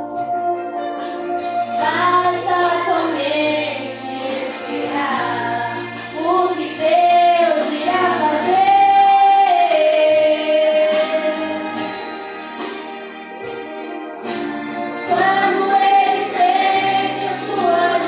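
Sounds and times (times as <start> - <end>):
group singing gospel song: 0.0 - 12.8, 14.2 - 18.0
instrumental accompaniment: 0.0 - 18.0.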